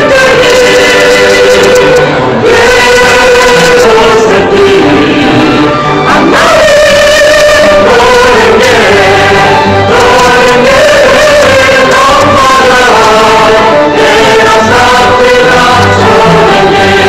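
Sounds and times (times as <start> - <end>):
group singing in chorus: 0.0 - 17.0.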